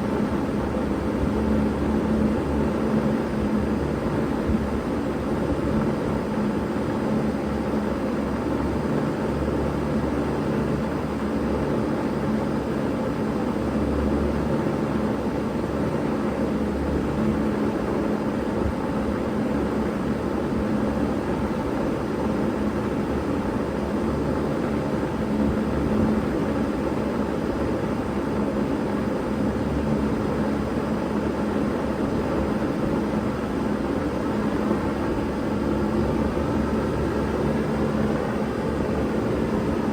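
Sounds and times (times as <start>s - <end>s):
heat pump humming: 0.0s - 39.9s.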